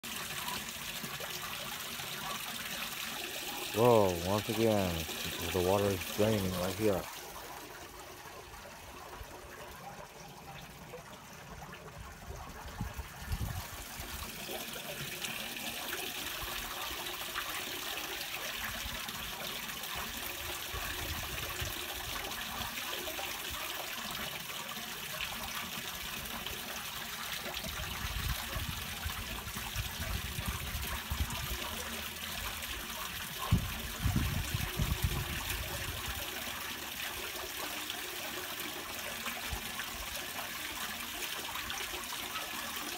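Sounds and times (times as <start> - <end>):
water trickling through drain grate: 0.0 - 42.9.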